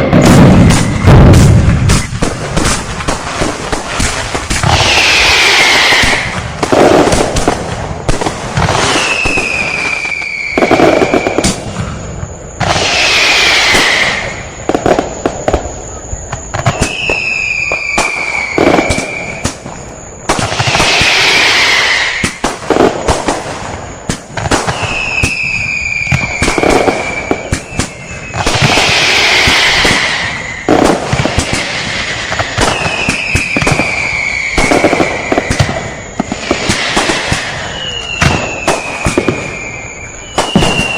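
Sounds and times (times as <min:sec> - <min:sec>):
firework whistles falling in pitch: 0:00.0 - 0:40.9
fireworks crackling and bursting: 0:00.0 - 0:40.9.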